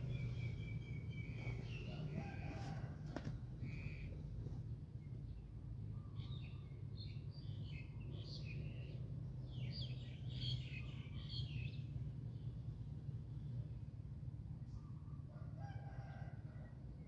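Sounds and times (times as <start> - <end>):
low background rumble: 0.0 - 17.0
songbirds chirping: 0.0 - 17.0.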